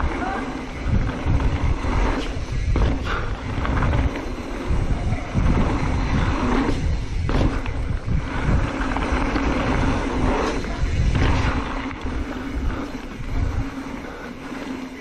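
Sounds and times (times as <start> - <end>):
bike rattling: 0.0 - 15.0
bike tyres rumbling: 0.0 - 15.0
wind buffeting microphone: 0.0 - 15.0.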